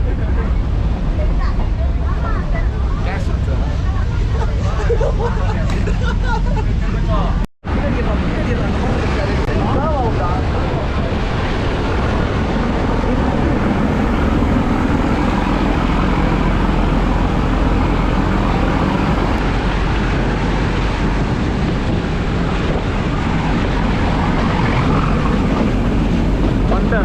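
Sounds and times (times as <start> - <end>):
train carriage rumbling: 0.0 - 27.0.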